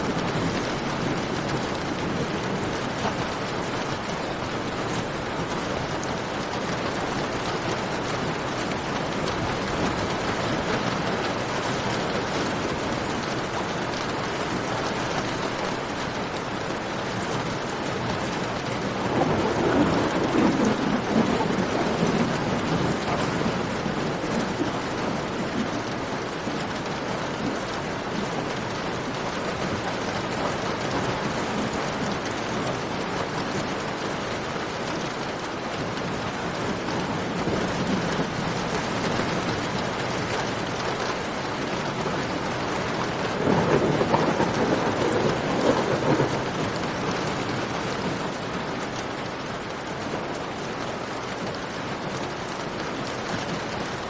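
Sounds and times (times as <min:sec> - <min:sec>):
rain falling: 0:00.0 - 0:54.0
thunder rumbling: 0:00.0 - 0:54.0.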